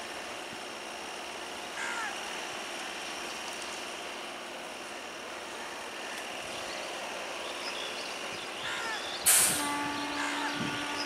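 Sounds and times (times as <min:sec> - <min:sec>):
train coaches rolling: 0:00.0 - 0:11.0.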